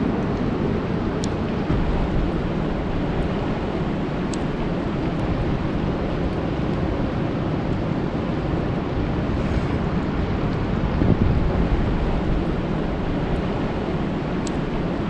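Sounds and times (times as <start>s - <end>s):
rain falling on a lake: 0.0s - 9.2s, 10.1s - 15.0s.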